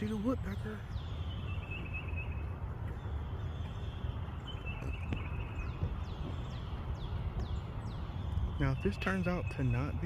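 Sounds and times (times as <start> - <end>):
faint bird chirps: 0.0 - 10.0
low outdoor rumble: 0.0 - 10.0.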